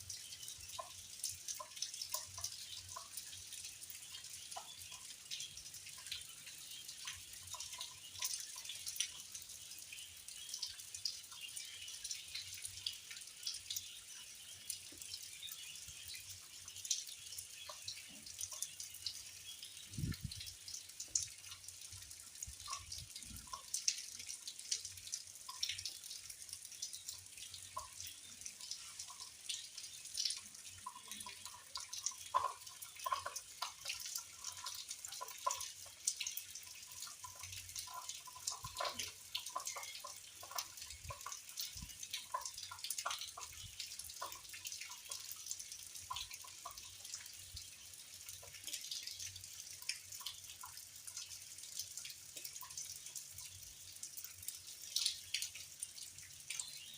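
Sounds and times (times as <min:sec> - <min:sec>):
faint hiss of falling rain: 0:00.0 - 0:56.9
raindrops dripping and plinking: 0:00.0 - 0:56.9.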